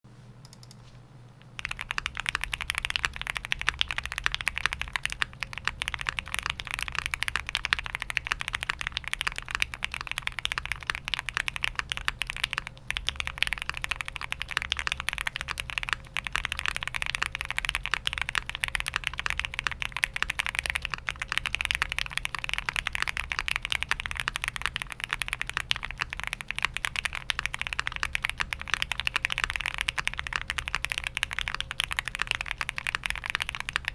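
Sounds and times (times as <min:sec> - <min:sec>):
fast mechanical keyboard typing: 0:00.4 - 0:00.8, 0:01.6 - 0:33.9.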